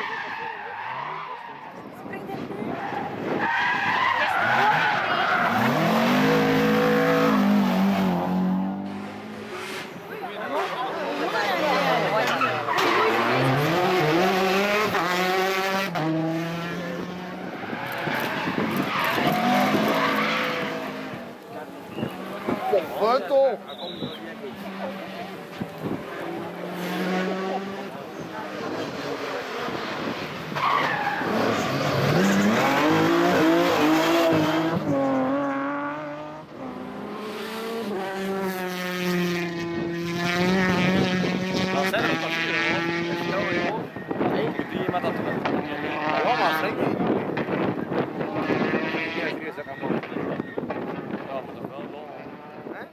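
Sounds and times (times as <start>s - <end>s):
rally car engine at full throttle: 0.0s - 52.9s.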